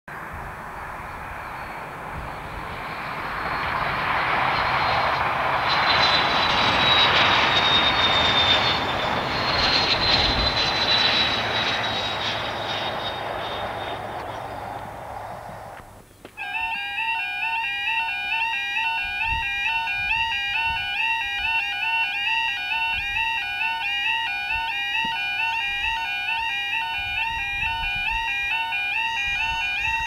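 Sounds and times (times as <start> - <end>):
train passing at speed: 0.1 - 28.2
high whine: 0.1 - 30.0.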